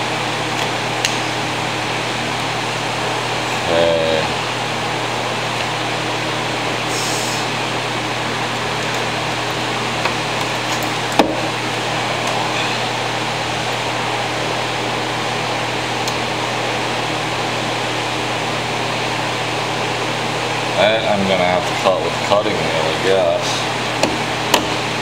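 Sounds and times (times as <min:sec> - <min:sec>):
machine drone: 0:00.0 - 0:25.0.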